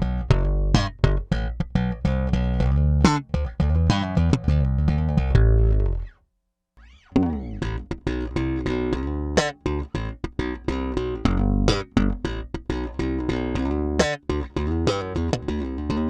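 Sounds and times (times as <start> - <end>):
slap bass notes: 0.0 - 6.1, 7.1 - 16.0.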